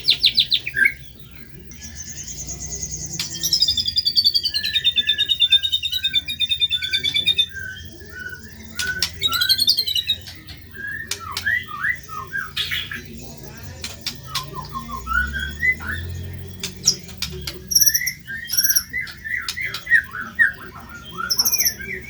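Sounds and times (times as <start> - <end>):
songbird singing trills and whistles: 0.0 - 22.0.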